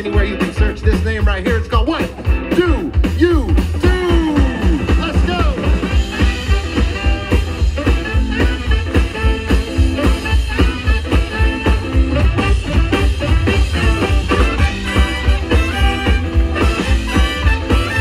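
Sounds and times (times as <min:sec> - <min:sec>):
live swing band playing: 0:00.0 - 0:18.0.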